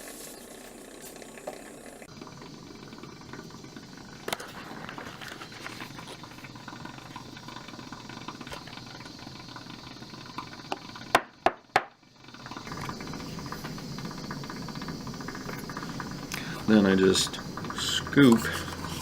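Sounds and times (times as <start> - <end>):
steam wand hissing: 0.0 - 11.3, 12.2 - 19.0.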